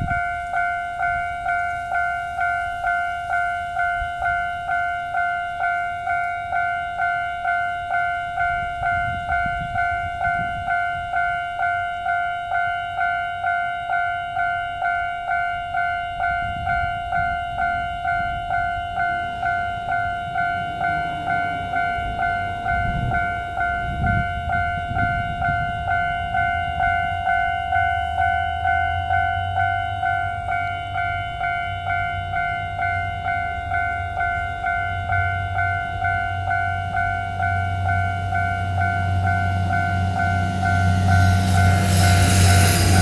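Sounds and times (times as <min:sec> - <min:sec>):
level-crossing warning bell: 0:00.0 - 0:43.0
passing train rumble: 0:00.0 - 0:43.0.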